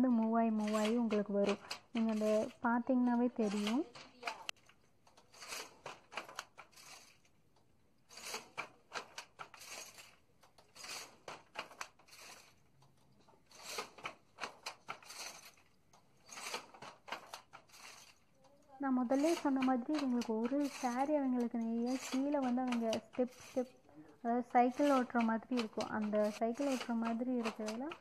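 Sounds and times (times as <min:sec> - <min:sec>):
wooden handloom clacking: 0:00.0 - 0:28.0.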